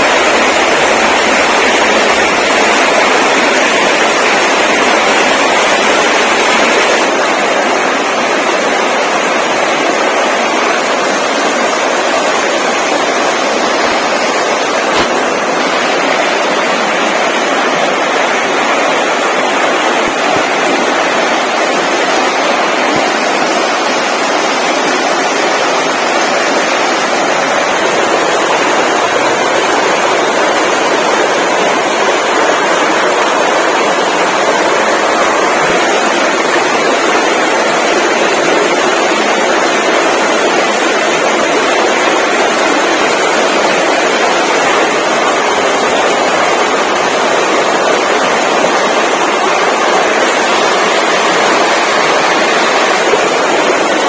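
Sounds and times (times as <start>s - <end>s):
loud rushing noise: 0.0s - 54.0s.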